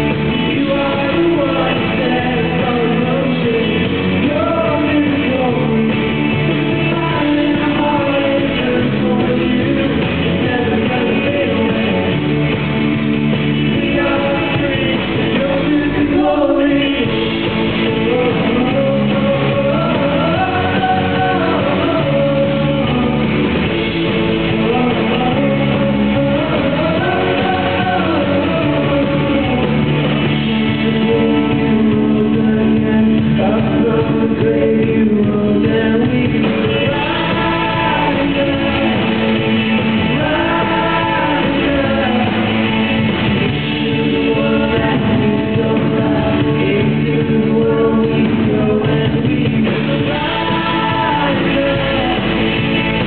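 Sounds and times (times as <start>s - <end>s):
lead vocals singing: 0.0s - 53.0s
live worship band playing: 0.0s - 53.0s.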